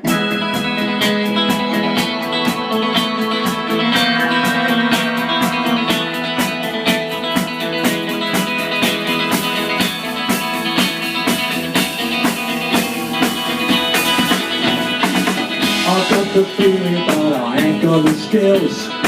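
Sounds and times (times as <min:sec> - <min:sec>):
live band playing: 0:00.0 - 0:19.0
strummed guitar: 0:00.0 - 0:19.0.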